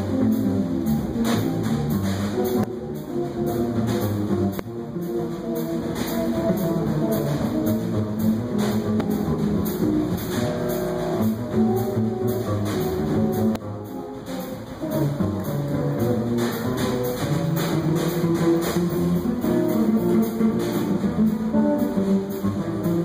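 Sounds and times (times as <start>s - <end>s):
drum kit: 0.0s - 23.0s
upright double bass: 0.0s - 23.0s.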